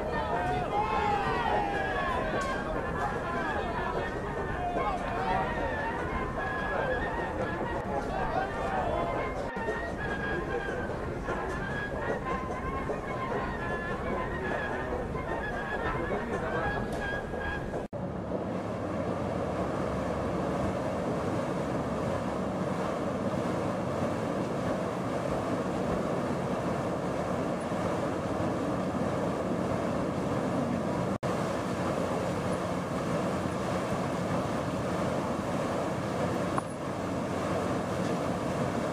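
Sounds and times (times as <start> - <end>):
steady mechanical rumble: 0.0 - 38.9.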